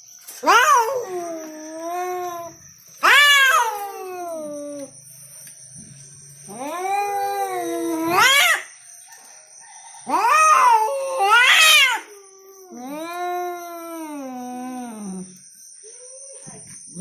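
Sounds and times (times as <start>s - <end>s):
cats yowling: 0.3s - 5.0s, 6.4s - 9.0s, 9.9s - 16.5s.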